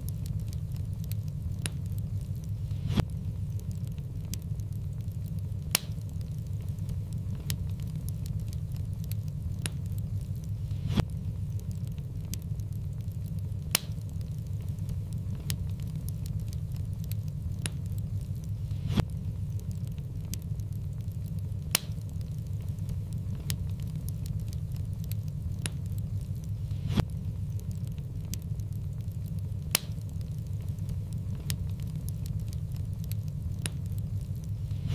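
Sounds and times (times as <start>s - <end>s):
low rumble of flames: 0.0s - 34.9s
sharp fire pops: 0.0s - 34.9s
wood fire crackling: 0.0s - 34.9s.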